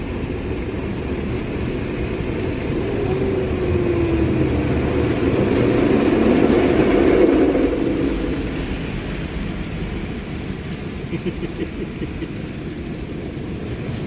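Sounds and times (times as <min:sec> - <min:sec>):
car wash machinery rushing: 0:00.0 - 0:14.0.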